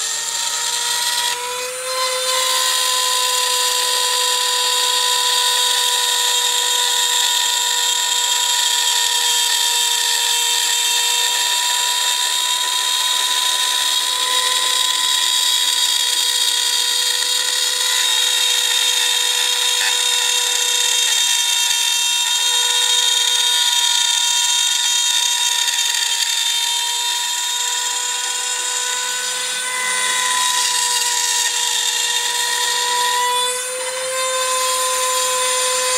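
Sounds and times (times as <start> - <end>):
high-pitched motor whine: 2.0 - 35.9.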